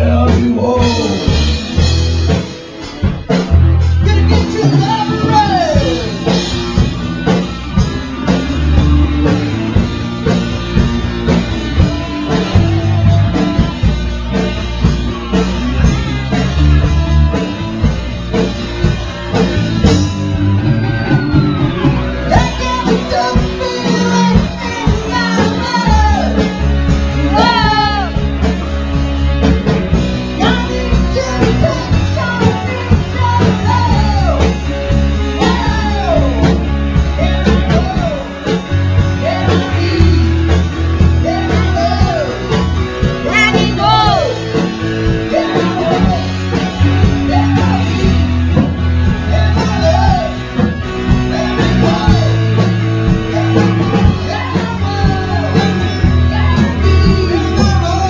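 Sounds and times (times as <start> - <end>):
electric guitar: 0.0 - 58.0
rock song with singer: 0.0 - 58.0
steady bass line: 0.0 - 58.0.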